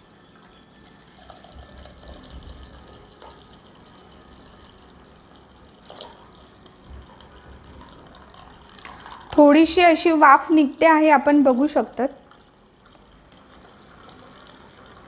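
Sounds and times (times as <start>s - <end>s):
milk pouring into clay pot: 0.1s - 10.6s, 11.2s - 15.0s.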